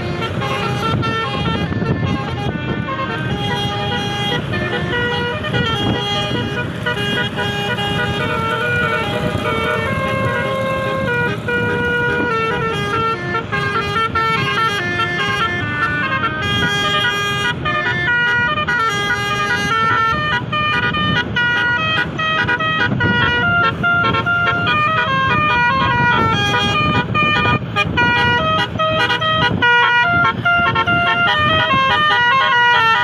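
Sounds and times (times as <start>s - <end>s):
engine and traffic rumble: 0.0s - 33.0s
multi-tone air horn melody: 0.0s - 33.0s.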